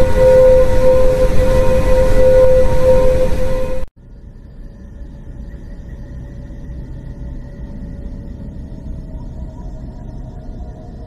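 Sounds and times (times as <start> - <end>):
faint steady tones: 0.0 - 11.0
low rumbling drone: 0.0 - 11.0.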